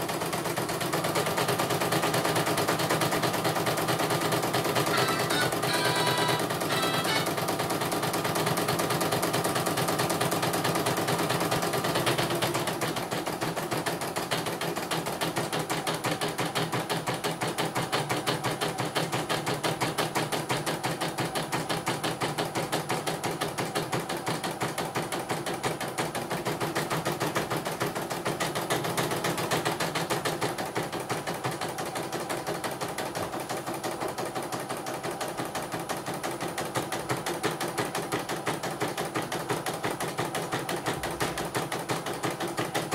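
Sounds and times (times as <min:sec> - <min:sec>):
embroidery machine stitching: 0:00.0 - 0:42.9.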